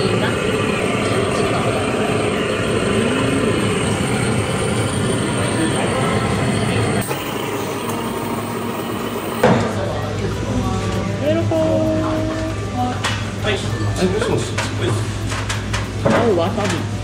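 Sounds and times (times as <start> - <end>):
restaurant background rumble: 0.0 - 17.0.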